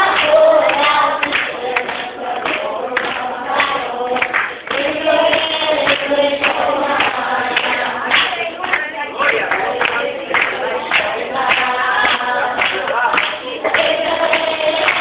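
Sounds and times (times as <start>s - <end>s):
group singing: 0.0s - 15.0s
sharp claps: 0.0s - 15.0s.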